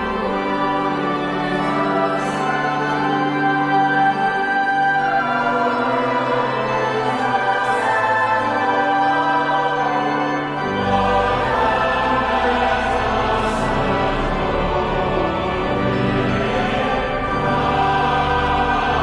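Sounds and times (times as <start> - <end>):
choir singing: 0.0 - 19.0
organ: 0.0 - 19.0.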